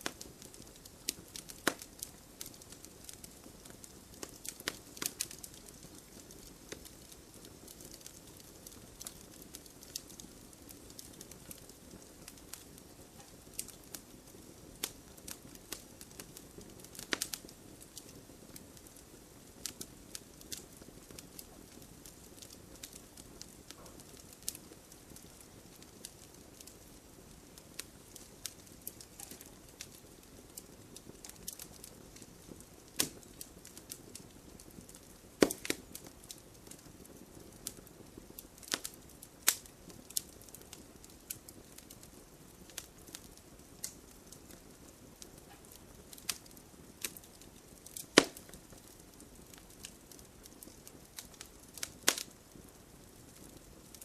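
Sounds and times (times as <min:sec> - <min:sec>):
campfire crackling and popping: 0:00.0 - 0:54.0
low steady hiss: 0:00.0 - 0:54.0.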